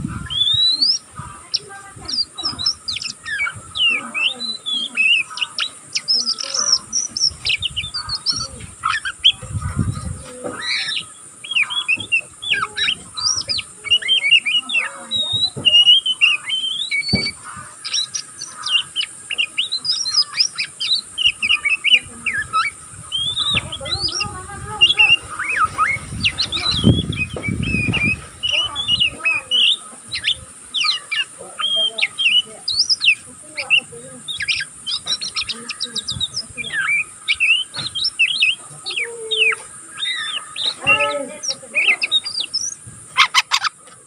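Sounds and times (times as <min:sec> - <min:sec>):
bird chirping and twittering: 0:00.0 - 0:44.0.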